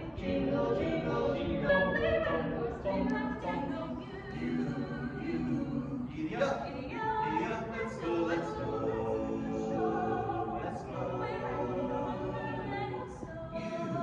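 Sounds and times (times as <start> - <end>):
carolers singing together: 0.0 - 14.0.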